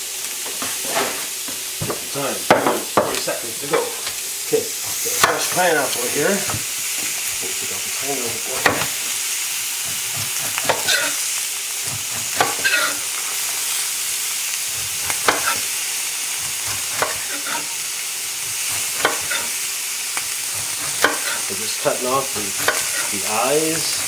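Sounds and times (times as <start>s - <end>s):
fish sizzling in a pan: 0.0s - 24.0s.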